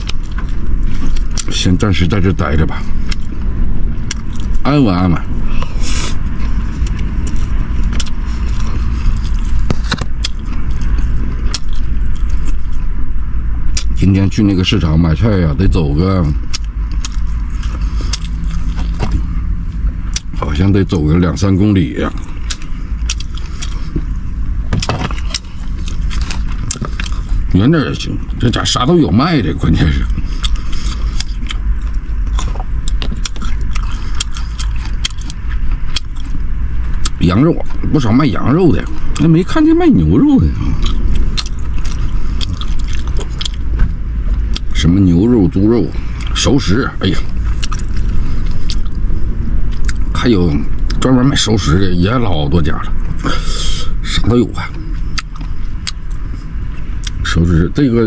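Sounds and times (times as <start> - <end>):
chewing and crunching food: 0.0 - 13.0, 13.7 - 57.5
low rumble inside vehicle: 0.0 - 58.0.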